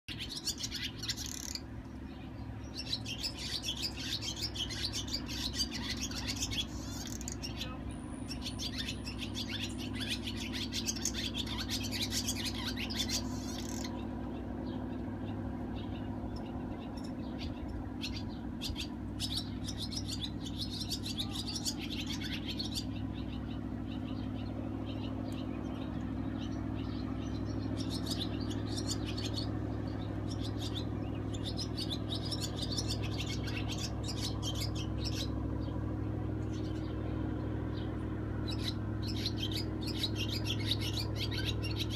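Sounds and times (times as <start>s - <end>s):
small birds chirping: 0.0s - 41.9s
steady low hum: 0.1s - 41.9s.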